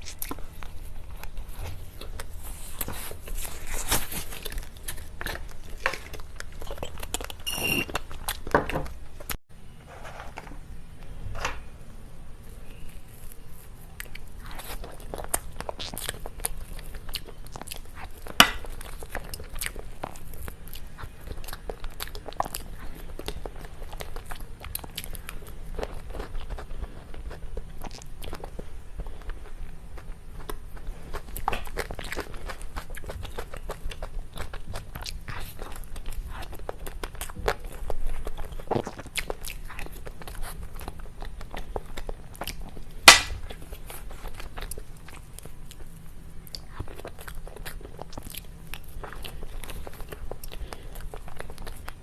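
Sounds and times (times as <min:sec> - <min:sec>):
chewing and crunchy mouth sounds: 0:00.0 - 0:09.4, 0:12.6 - 0:52.0.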